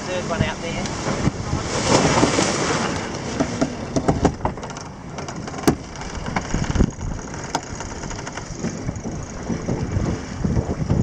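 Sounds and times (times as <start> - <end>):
wind and water rushing: 0.0 - 11.0.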